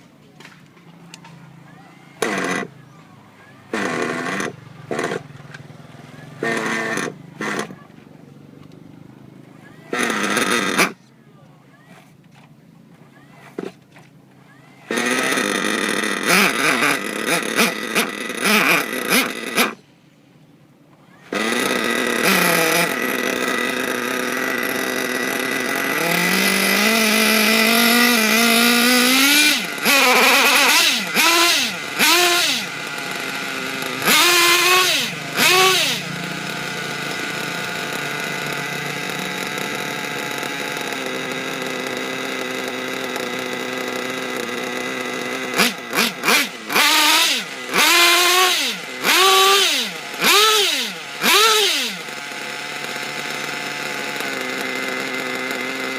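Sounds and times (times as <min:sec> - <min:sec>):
model engine running and revving: 0:00.4 - 0:07.9, 0:08.6 - 0:11.0, 0:14.5 - 0:19.8, 0:21.1 - 0:55.9.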